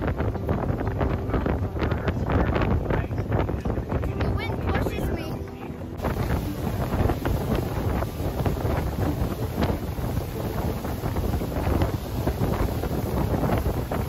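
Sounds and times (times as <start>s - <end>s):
low rumble of boat engine: 0.0s - 14.0s
wind buffeting the microphone: 0.0s - 14.0s.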